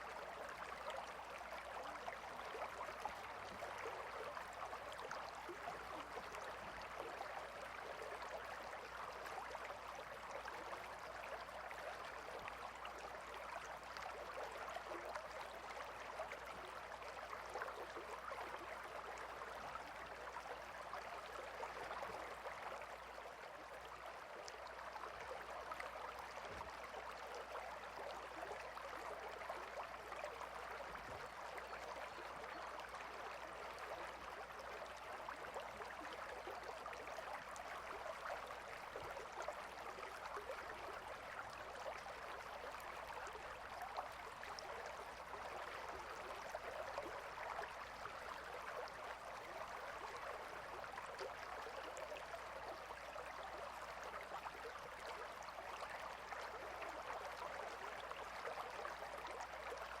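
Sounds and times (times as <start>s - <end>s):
river flowing gently: 0.0s - 60.0s.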